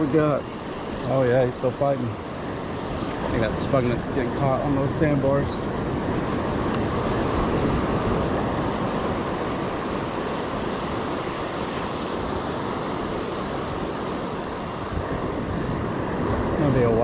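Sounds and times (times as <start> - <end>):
wind on microphone: 0.0 - 12.9, 13.8 - 17.0
spinning reel cranking: 0.0 - 17.0
surf rushing: 0.0 - 17.0.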